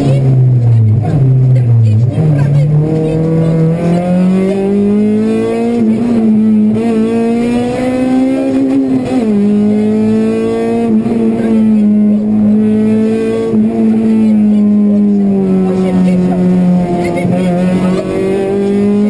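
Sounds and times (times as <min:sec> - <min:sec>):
car engine revving high: 0:00.0 - 0:19.0.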